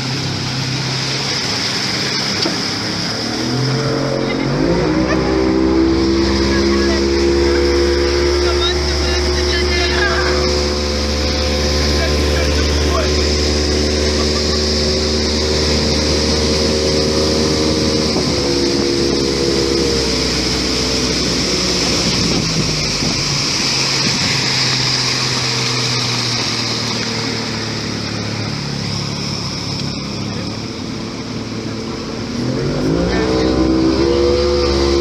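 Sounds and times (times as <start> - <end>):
motorboat engine running: 0.0 - 35.0
water rushing: 0.0 - 35.0
wind: 0.0 - 35.0.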